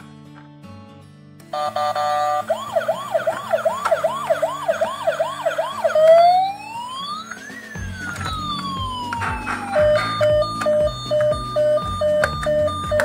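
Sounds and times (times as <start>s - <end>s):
toy electronic siren: 1.6s - 13.0s.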